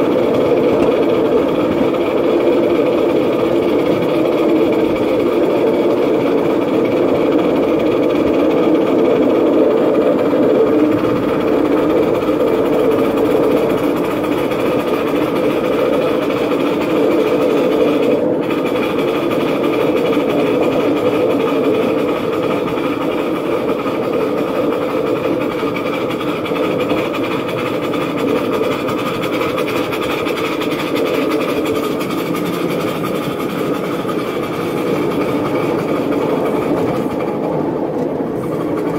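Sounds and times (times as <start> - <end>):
steam locomotive running: 0.0 - 38.9
wheels on rails: 0.0 - 38.9.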